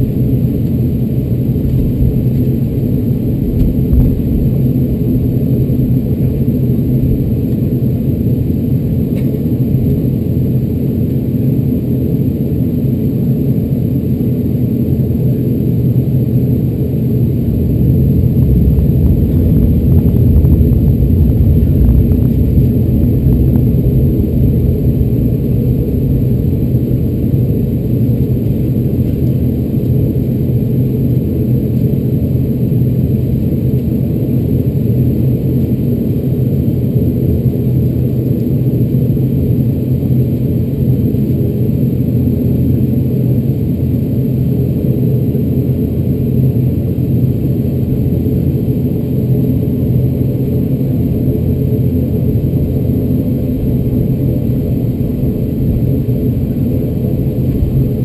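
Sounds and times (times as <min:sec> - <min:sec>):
turboprop engine droning: 0:00.0 - 0:58.0.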